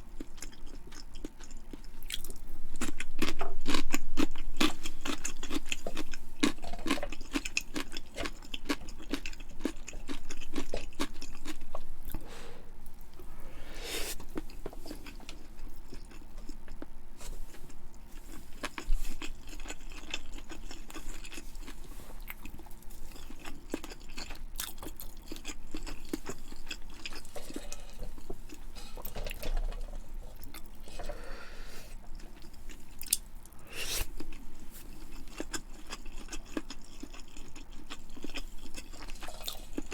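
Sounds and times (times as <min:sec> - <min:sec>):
close chewing: 0:00.1 - 0:13.3, 0:14.1 - 0:39.9.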